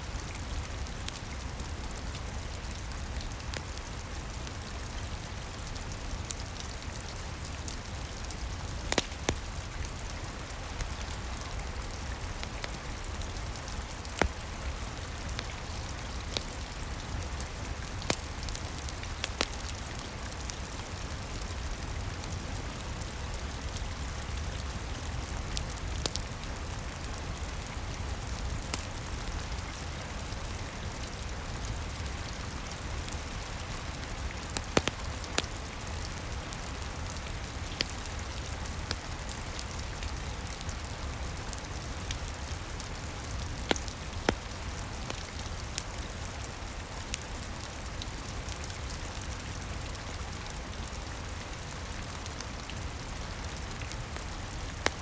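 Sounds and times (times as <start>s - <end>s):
steady rain hiss: 0.0s - 55.0s
wood fire crackling: 0.0s - 55.0s.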